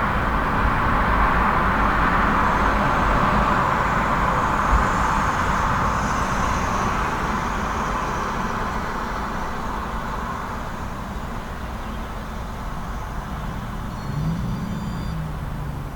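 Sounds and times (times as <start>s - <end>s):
passing cars traffic: 0.0s - 15.9s.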